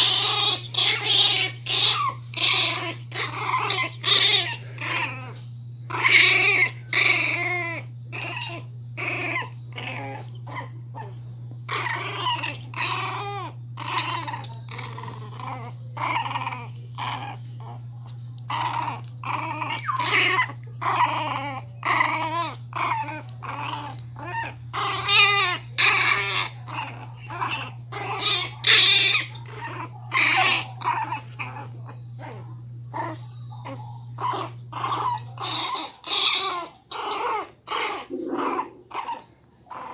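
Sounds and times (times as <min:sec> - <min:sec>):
puppies growling: 0:00.0 - 0:39.9
puppies yipping and whining: 0:00.0 - 0:39.9.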